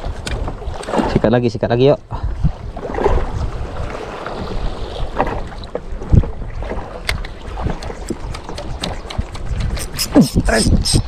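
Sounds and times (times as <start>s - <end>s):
waves slapping boat hull: 0.0s - 10.9s
wind buffeting microphone: 0.0s - 11.0s.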